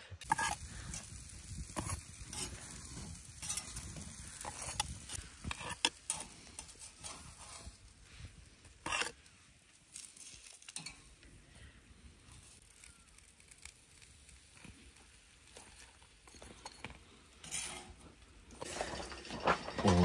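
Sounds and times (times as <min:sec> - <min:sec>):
sausages sizzling in a pan: 0:00.0 - 0:19.1.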